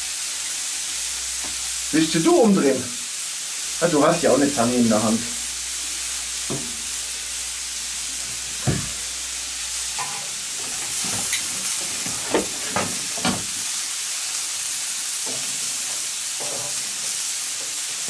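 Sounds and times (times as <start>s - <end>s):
shrimp sizzling in oil: 0.0s - 18.0s.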